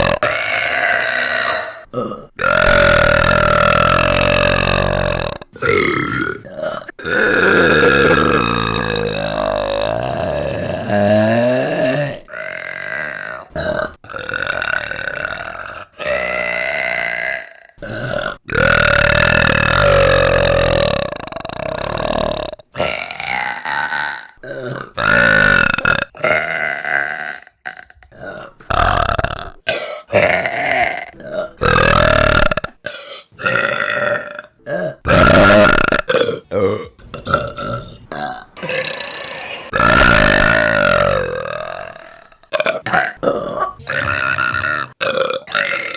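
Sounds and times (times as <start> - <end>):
women burping: 0.0 - 45.9.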